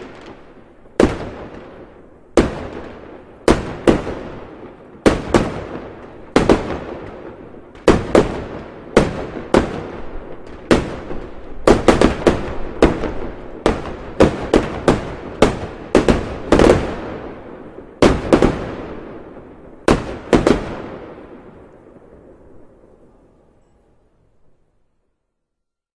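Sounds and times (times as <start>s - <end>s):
fireworks exploding: 0.0s - 23.7s.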